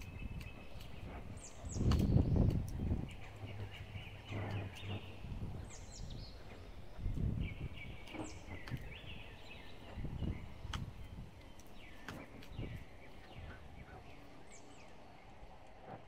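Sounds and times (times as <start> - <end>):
sharp clicks: 0.0 - 13.5
low rumbles: 0.0 - 16.0
songbirds calling: 0.0 - 16.0.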